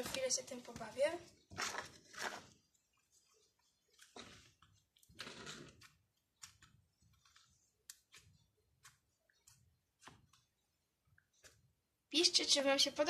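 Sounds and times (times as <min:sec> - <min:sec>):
slime squelching rustle: 0:00.0 - 0:11.9.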